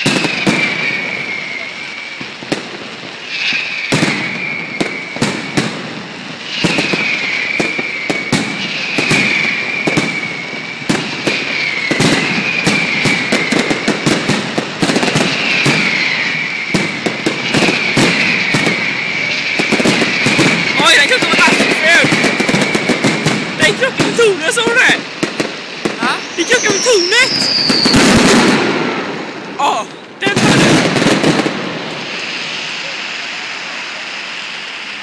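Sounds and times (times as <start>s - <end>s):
fireworks bangs and crackling: 0.0s - 35.0s
high firework whistle: 0.0s - 35.0s.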